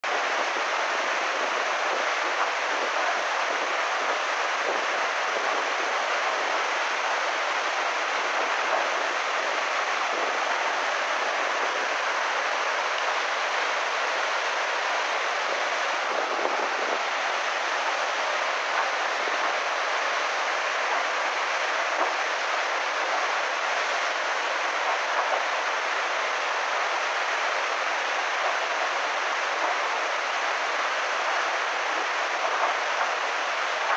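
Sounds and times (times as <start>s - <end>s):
floodwater rushing: 0.0s - 33.9s.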